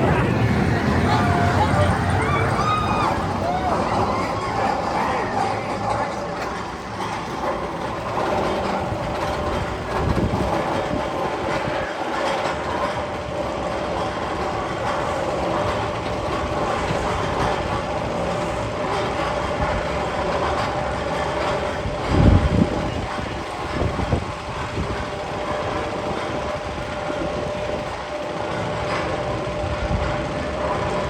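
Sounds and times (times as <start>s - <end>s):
roller coaster wheels clattering: 0.0s - 31.0s.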